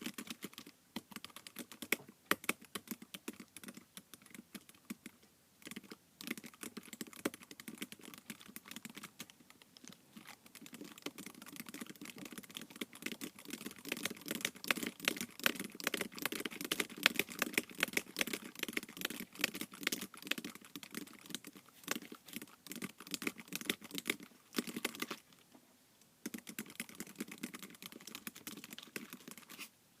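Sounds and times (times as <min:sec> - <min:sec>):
rapid typing key clicks: 0:00.0 - 0:09.3, 0:10.4 - 0:25.1, 0:26.2 - 0:29.5.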